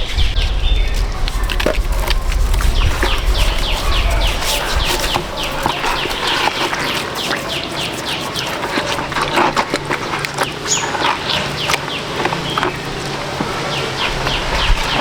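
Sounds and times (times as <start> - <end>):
background murmur: 0.0 - 15.0
small birds chirping: 0.0 - 15.0.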